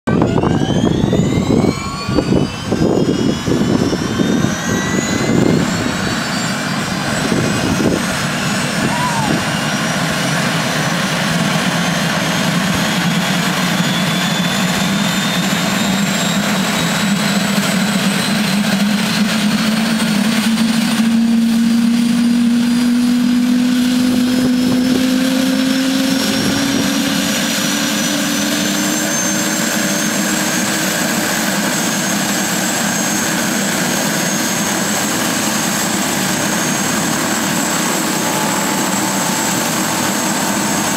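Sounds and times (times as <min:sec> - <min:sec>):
helicopter engine whine: 0:00.0 - 0:40.9
helicopter rotor low tone: 0:00.0 - 0:40.9.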